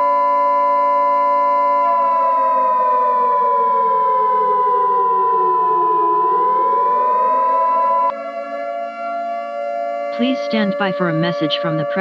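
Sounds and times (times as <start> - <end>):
steady high tone: 0.0 - 8.2, 10.1 - 12.0
siren wailing: 0.0 - 12.0.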